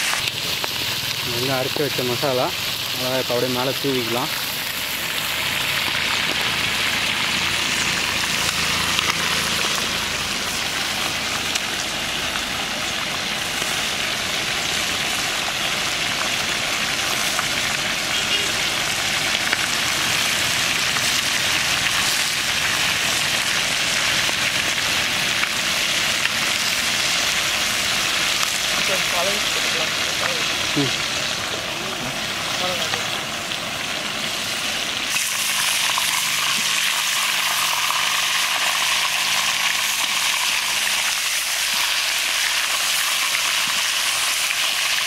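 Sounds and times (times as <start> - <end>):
chicken sizzling in oil: 0.0 - 45.0.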